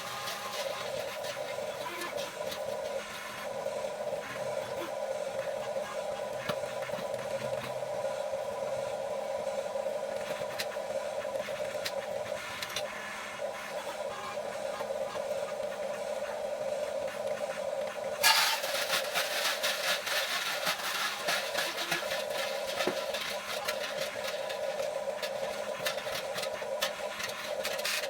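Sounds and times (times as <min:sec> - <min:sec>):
small electric motors whining: 0:00.0 - 0:28.0.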